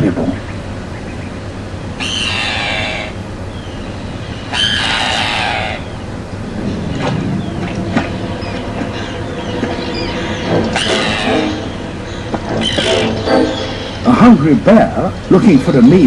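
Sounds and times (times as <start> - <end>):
harsh bird calls: 0.0 - 16.0
terns calling: 0.0 - 16.0.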